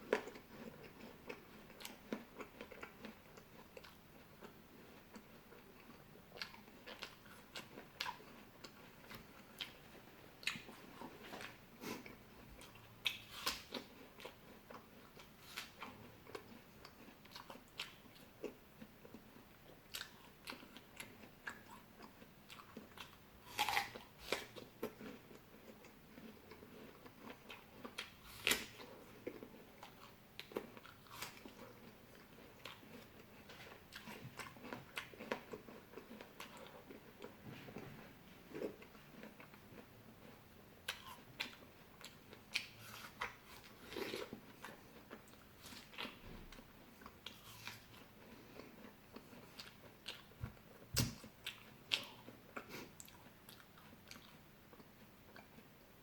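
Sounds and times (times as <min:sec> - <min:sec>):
chewing and biting fruit: 0:00.0 - 0:55.8.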